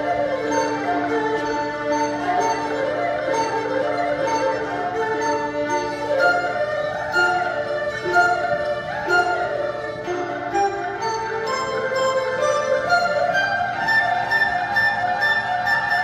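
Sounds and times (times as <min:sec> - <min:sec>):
bowed strings: 0:00.0 - 0:16.0
flute melody: 0:00.0 - 0:16.0.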